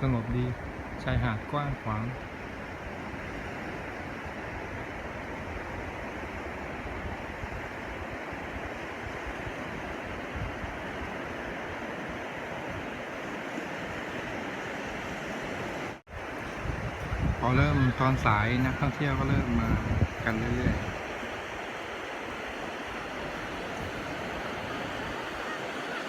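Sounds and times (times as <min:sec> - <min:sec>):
wind rumble on microphone: 0:00.0 - 0:25.9
sea surf on sandy beach: 0:00.0 - 0:26.0.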